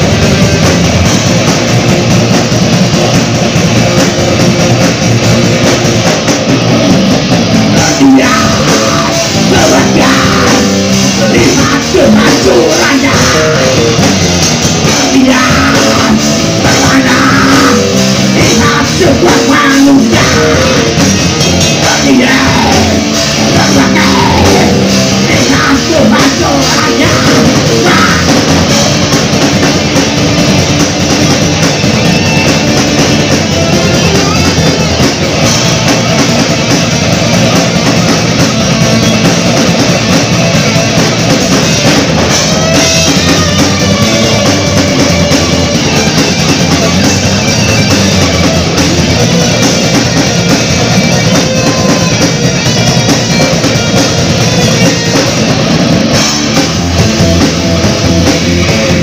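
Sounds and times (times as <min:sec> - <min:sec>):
live heavy rock band: 0:00.0 - 0:59.0.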